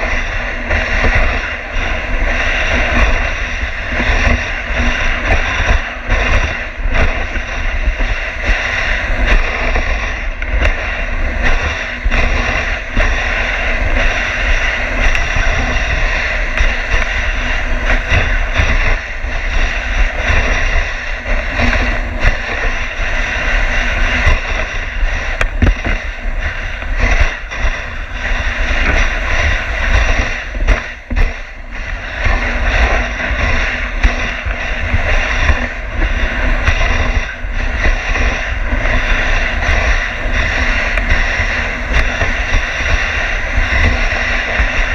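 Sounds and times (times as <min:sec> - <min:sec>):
sled knocking and rattling: 0:00.0 - 0:44.9
sled runners scraping on snow: 0:00.0 - 0:44.9
wind rumble on microphone: 0:00.0 - 0:44.9.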